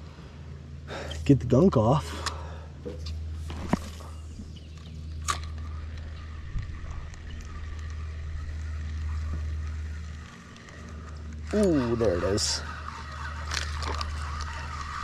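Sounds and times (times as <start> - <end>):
boat motor hum: 0.0 - 15.0.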